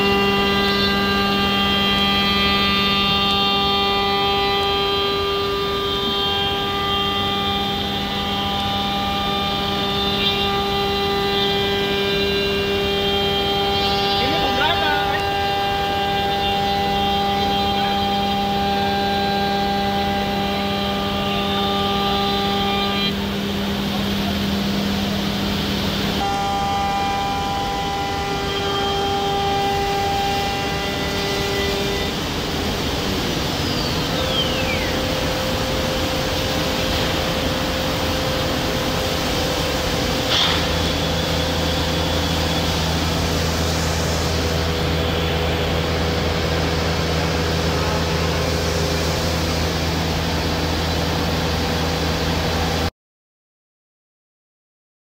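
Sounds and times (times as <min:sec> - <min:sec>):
whine falling in pitch: 0:00.0 - 0:52.9
wood router machine running: 0:00.0 - 0:52.9
low hum: 0:04.8 - 0:52.9.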